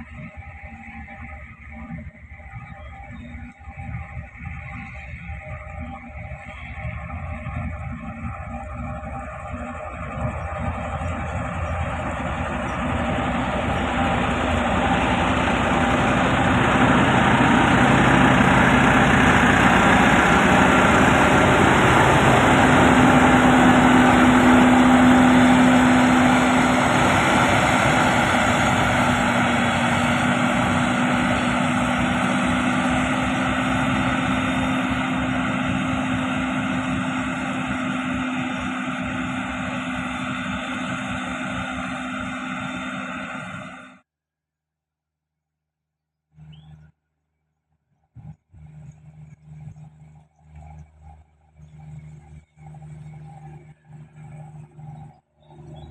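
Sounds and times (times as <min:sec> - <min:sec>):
heavy machinery diesel engine: 0:00.0 - 0:44.0, 0:48.2 - 0:55.9.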